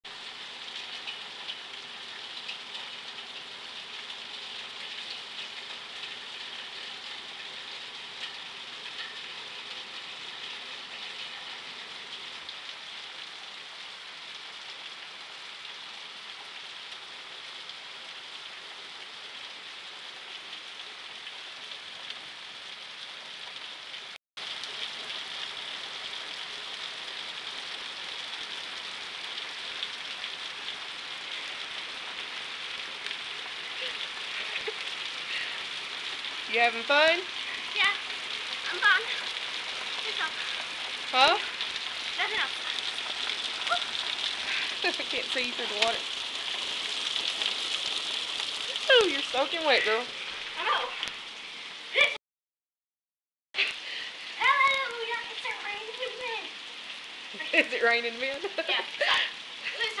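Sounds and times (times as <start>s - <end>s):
heavy rain falling: 0.1s - 52.2s, 53.6s - 60.0s.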